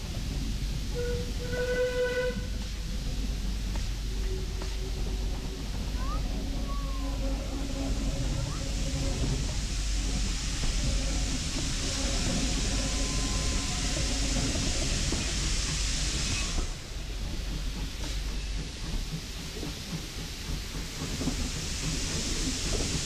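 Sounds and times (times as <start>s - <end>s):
steam hiss: 0.0s - 23.0s
train carriage rumble and rattle: 0.0s - 23.0s.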